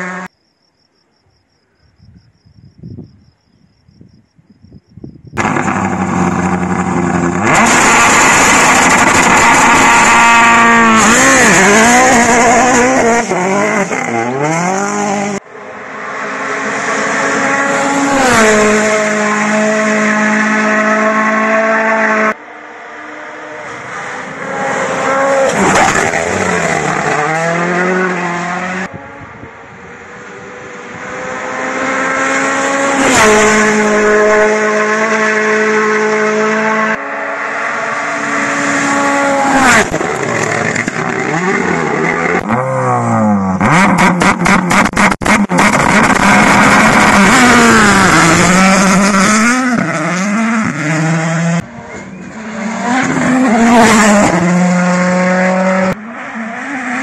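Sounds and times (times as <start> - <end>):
rally car engines revving: 5.4 - 57.0.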